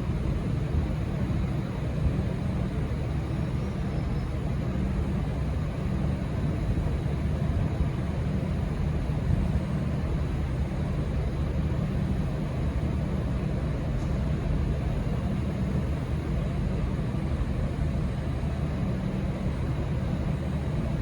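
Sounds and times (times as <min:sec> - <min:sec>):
locomotive diesel engine rumble: 0:00.0 - 0:21.0.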